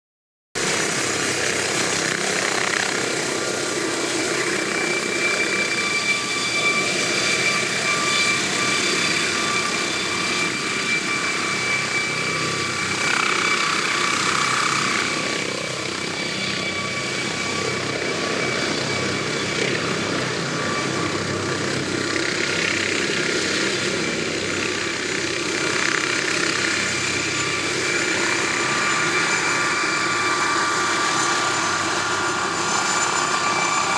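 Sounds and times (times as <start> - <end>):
helicopter rotor noise: 0.6 - 33.9
helicopter turbine whine: 0.6 - 33.9.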